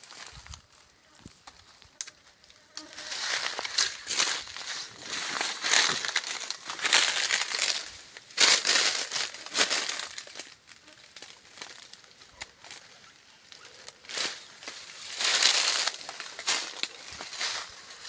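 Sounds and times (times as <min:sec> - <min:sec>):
footsteps crunching dry leaves: 0:00.0 - 0:18.0.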